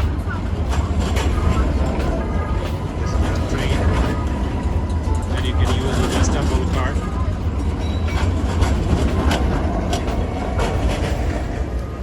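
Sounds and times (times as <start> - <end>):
tram rumbling past: 0.0 - 12.0
wheels clacking on rails: 0.0 - 12.0.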